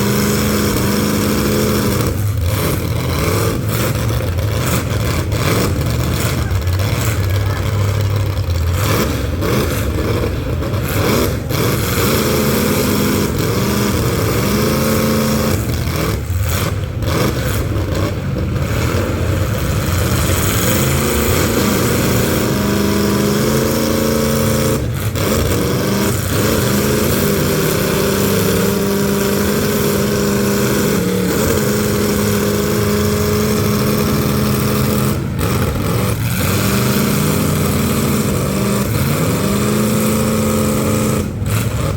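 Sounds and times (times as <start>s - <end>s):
car engines revving hard: 0.0s - 41.9s
constant loud rumble: 0.0s - 41.9s.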